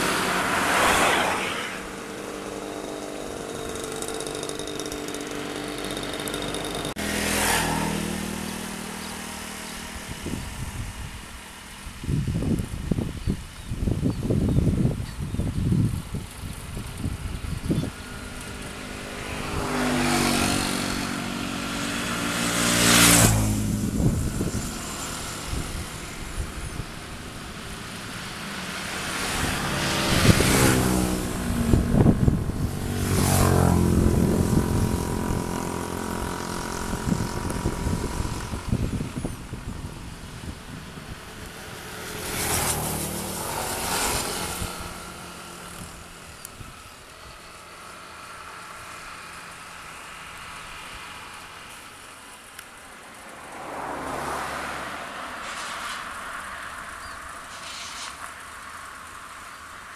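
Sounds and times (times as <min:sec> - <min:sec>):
vehicles passing by: 0:00.0 - 0:59.9.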